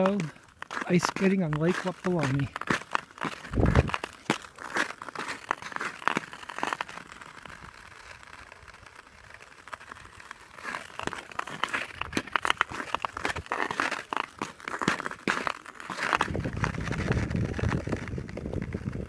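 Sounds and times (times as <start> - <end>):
ice skates scraping on ice: 0.0 - 19.0.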